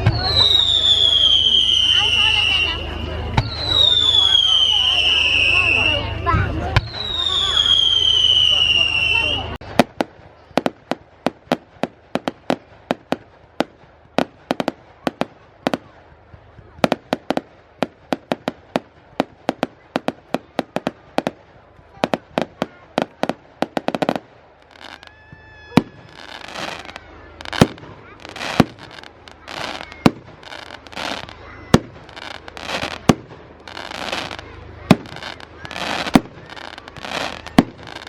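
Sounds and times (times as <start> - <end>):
fireworks bangs: 0.0 - 38.0
fireworks crackling: 0.0 - 38.0.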